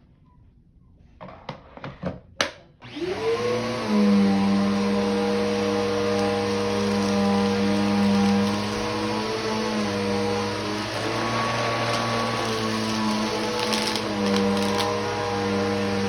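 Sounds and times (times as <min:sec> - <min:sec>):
vacuum cleaner running: 0:02.8 - 0:16.0.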